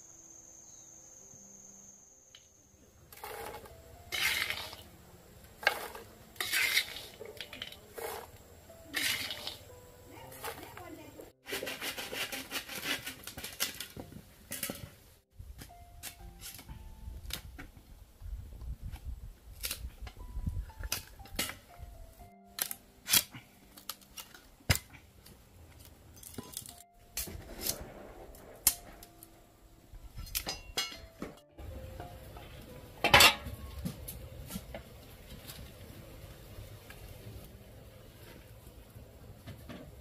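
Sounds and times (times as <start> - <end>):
soft background music: 0.1 - 11.4, 15.3 - 40.0.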